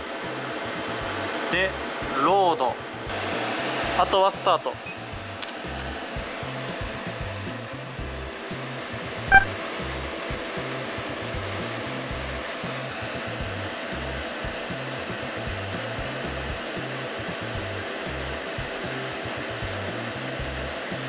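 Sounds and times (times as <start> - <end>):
fans blowing air: 0.0 - 21.0.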